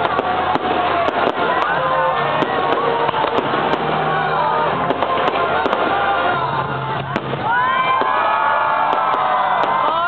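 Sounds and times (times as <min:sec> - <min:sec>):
music playing: 0:00.0 - 0:08.2
fireworks bangs and crackling: 0:00.0 - 0:10.0.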